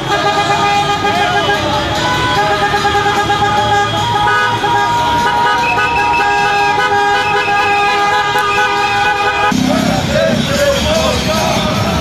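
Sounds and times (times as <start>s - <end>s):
car horns honking: 0.0s - 11.8s
crowd noise: 0.0s - 12.0s.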